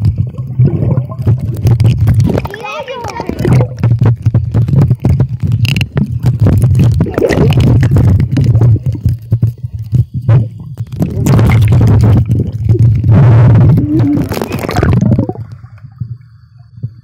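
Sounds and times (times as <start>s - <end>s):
underwater rumble and bubbles: 0.0s - 17.0s.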